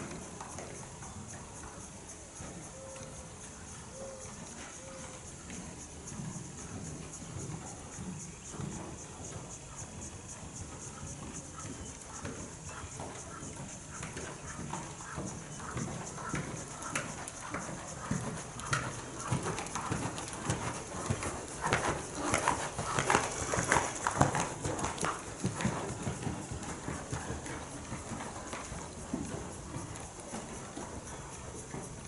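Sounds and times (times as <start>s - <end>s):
horse hoofbeats on sand: 4.2s - 32.0s.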